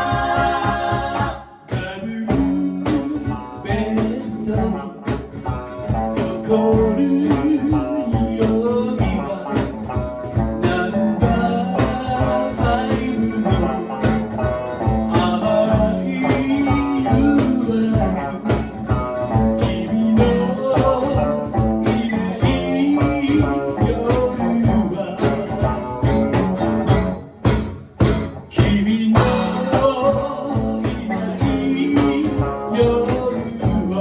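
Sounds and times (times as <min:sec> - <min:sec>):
person singing: 0:00.0 - 0:05.2, 0:06.0 - 0:26.2, 0:28.5 - 0:34.0
drums: 0:00.0 - 0:34.0
guitar: 0:00.0 - 0:34.0.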